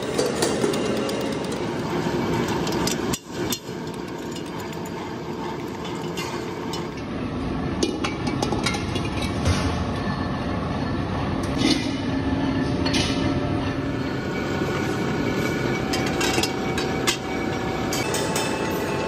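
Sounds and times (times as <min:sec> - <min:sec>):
workshop machinery running: 0:00.0 - 0:19.0.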